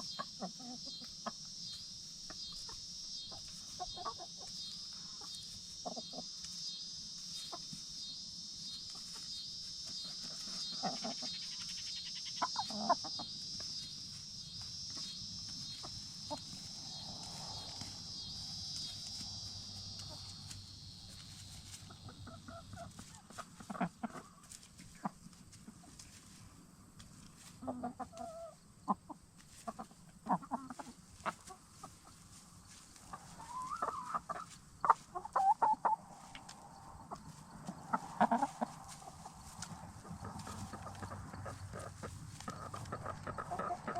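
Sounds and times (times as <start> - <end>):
hens clucking: 0.0 - 43.9
insects chirring: 0.0 - 43.9.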